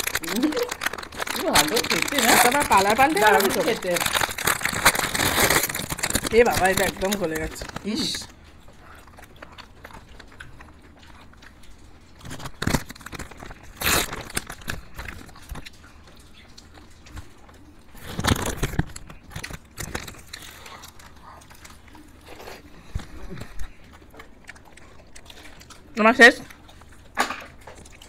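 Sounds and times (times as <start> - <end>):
biting and chewing ice cream: 0.0 - 28.0.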